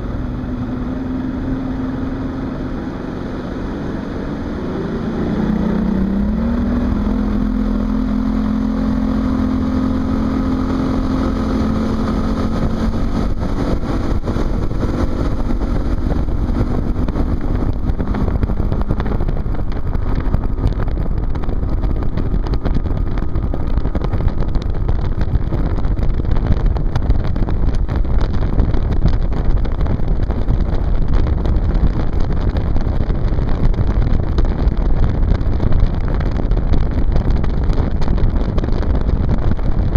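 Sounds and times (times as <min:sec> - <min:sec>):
motorboat engine: 0:00.0 - 0:39.9
rush of wind and water: 0:00.0 - 0:39.9.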